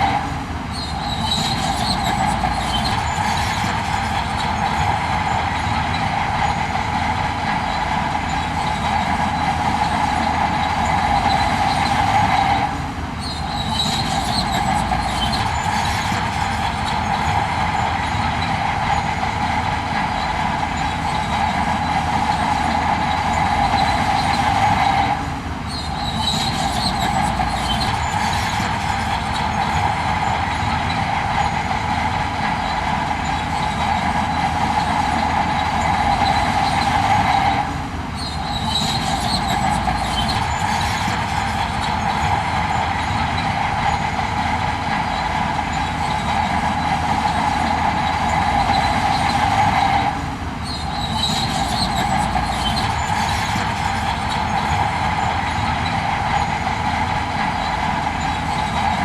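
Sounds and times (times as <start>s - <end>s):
heavy machinery running: 0.0s - 59.0s.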